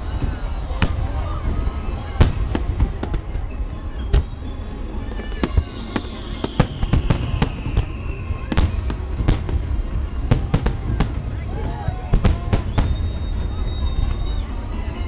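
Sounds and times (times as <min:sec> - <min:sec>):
falling firework whistle: 0:00.0 - 0:09.5, 0:12.0 - 0:14.7
fireworks bursting: 0:00.0 - 0:14.8.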